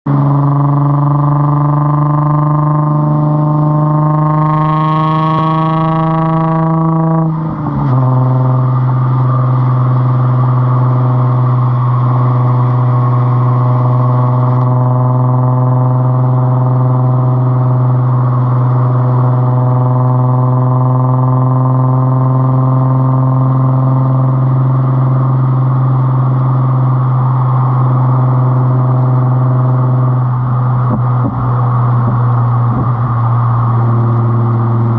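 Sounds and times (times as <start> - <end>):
car exhaust droning: 0.0 - 34.9.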